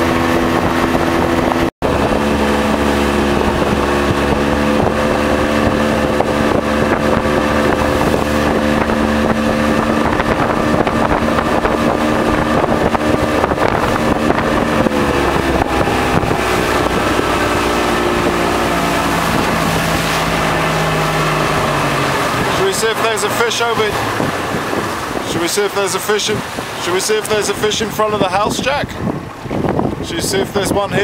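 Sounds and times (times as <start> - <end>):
boat motor running: 0.0 - 31.0
wind on microphone: 0.0 - 31.0.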